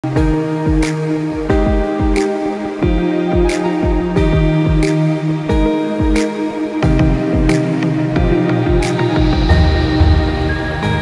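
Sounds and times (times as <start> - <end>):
held synth chords: 0.0 - 11.0
kick-drum beat: 0.2 - 6.2, 6.8 - 11.0.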